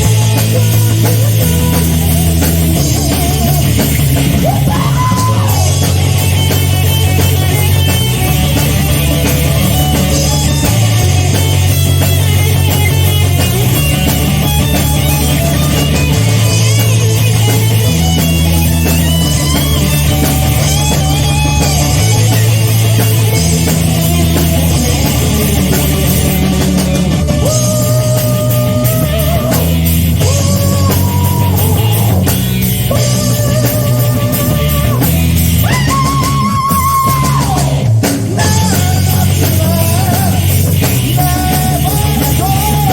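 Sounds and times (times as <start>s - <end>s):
bass guitar: 0.0s - 42.9s
drum kit: 0.0s - 42.9s
lead electric guitar: 0.0s - 42.9s.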